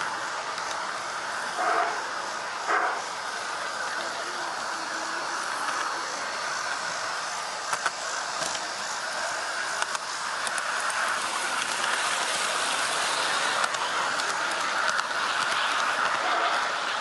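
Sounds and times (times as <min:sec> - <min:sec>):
model train wheels on rails: 0:00.0 - 0:17.0.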